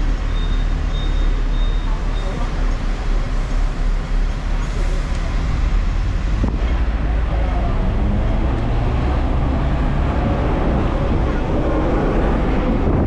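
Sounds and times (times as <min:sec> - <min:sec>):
road traffic: 0:00.0 - 0:13.0
tram rumbling: 0:00.0 - 0:13.0.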